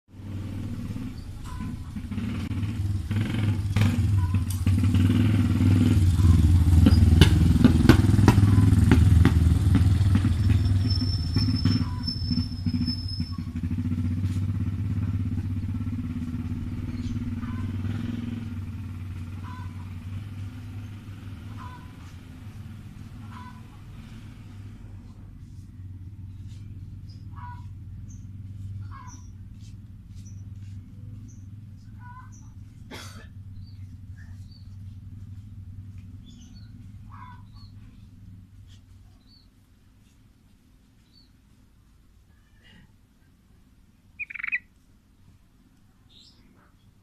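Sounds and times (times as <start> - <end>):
vehicle engine passing by: 0.1 - 40.2, 44.2 - 44.6.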